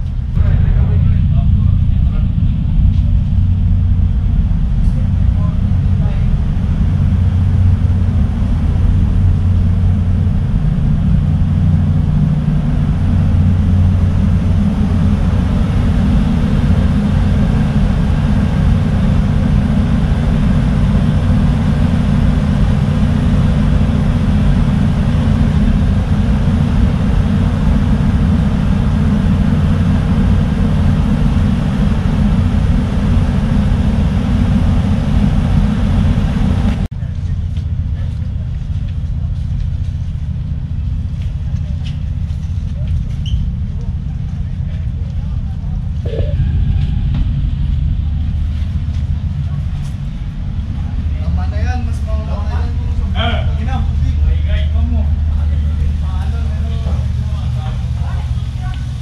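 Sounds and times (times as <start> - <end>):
ferry diesel engines droning: 0.0 - 59.0.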